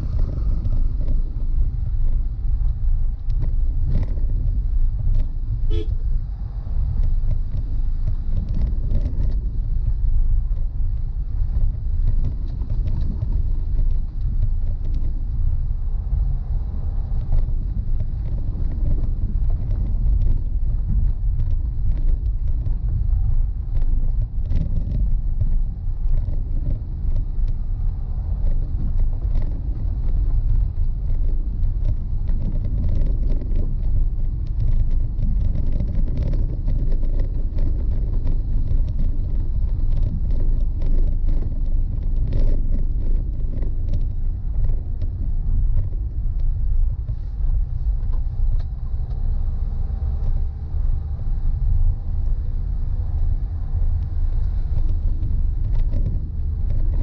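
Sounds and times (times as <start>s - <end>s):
gravel clicks and rattles: 0.0s - 57.0s
vehicle driving on gravel: 0.0s - 57.0s.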